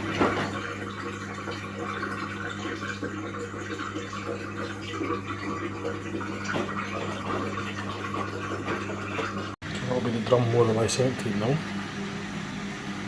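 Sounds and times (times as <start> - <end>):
drain pump humming: 0.0 - 13.0
water gurgling: 0.0 - 13.0.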